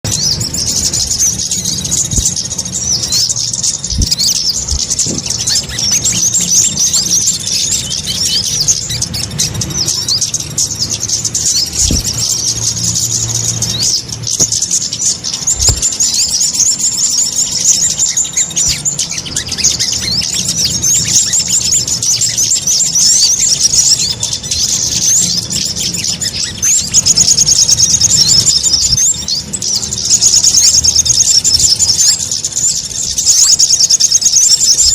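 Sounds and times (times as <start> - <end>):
birds chirping rapidly: 0.0 - 34.9.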